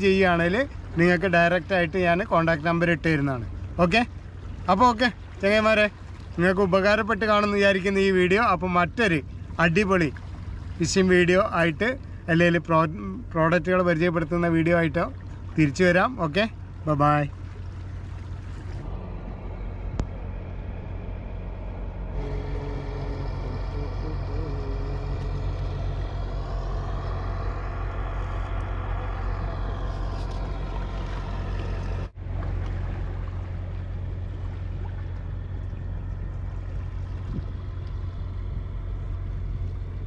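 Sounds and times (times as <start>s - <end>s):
distant engine: 0.0s - 40.0s
steady low rumble: 0.0s - 40.0s.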